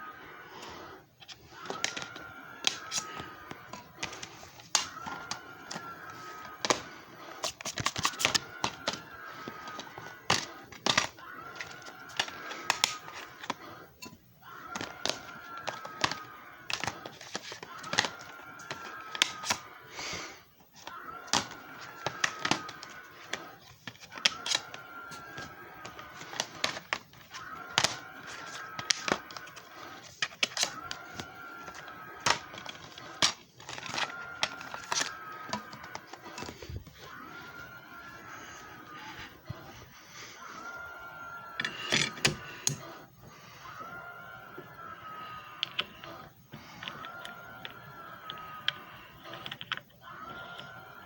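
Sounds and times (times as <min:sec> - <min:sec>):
disc repair machine whirring: 0:01.1 - 0:39.8, 0:40.5 - 0:51.0.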